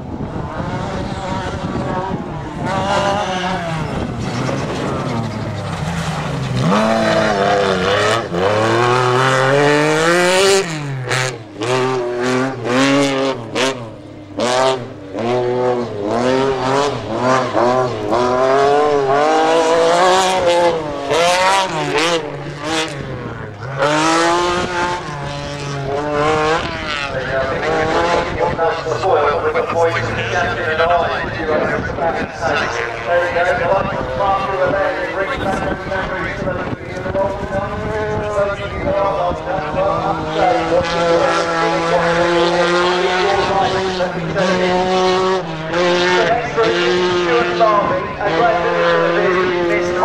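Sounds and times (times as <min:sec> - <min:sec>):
rally car engine revving: 0:00.0 - 0:50.0.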